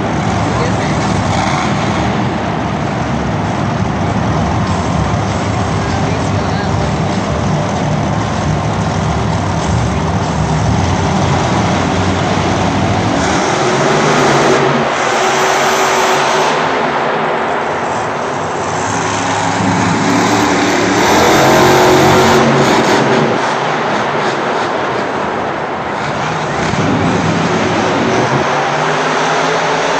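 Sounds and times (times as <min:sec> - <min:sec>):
monster truck engine revving: 0:00.0 - 0:29.9.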